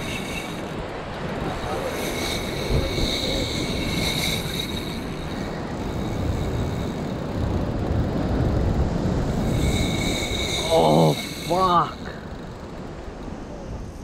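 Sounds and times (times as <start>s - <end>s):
surf crashing on rocks: 0.0s - 13.2s
fishing reel whine: 0.0s - 14.0s
wind rumble: 0.0s - 14.0s.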